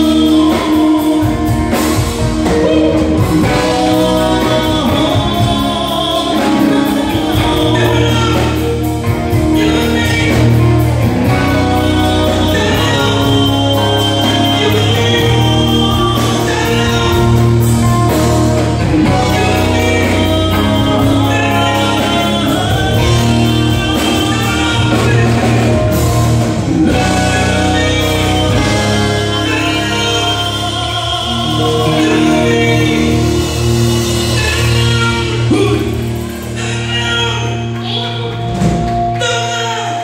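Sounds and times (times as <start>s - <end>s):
live rock band playing: 0.0s - 40.0s
person singing: 0.0s - 40.0s.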